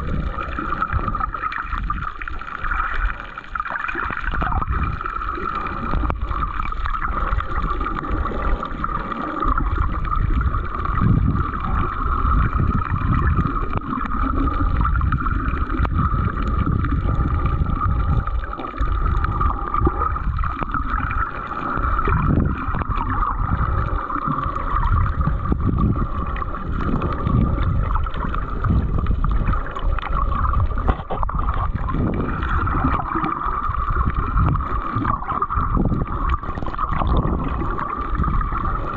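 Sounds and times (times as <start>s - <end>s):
muffled underwater rumble: 0.0s - 38.9s.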